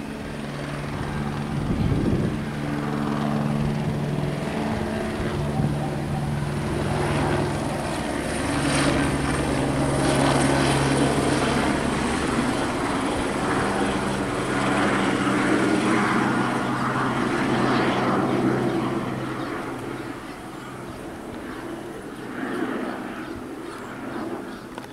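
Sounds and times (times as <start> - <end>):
helicopter flying overhead: 0.0 - 24.9.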